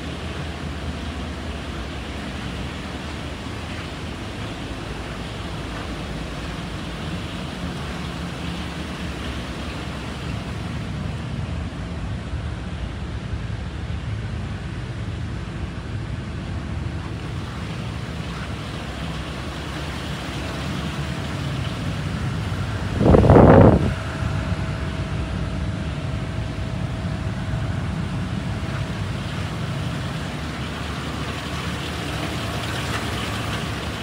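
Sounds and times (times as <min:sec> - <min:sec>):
low rumble: 0:00.0 - 0:34.0
steady rushing noise: 0:00.0 - 0:34.0.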